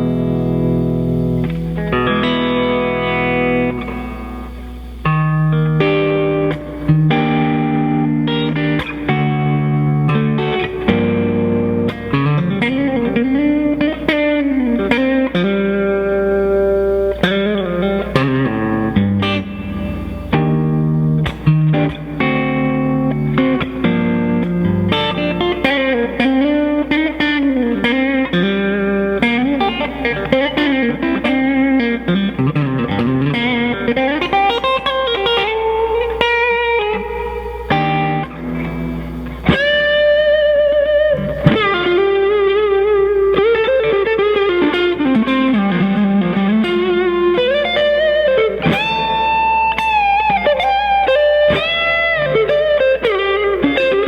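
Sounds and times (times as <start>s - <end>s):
electric guitar lead lines: 0.0s - 54.0s.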